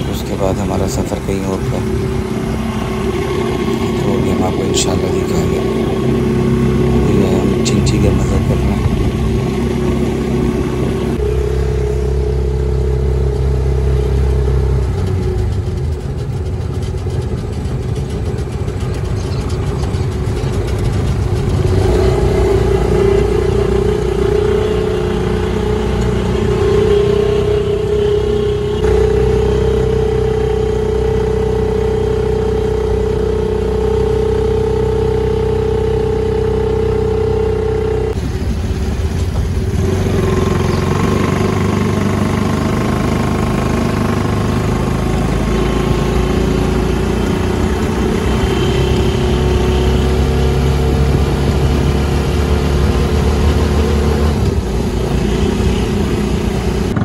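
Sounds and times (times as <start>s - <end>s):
motorcycle rickshaw engine running: 0.0s - 57.0s.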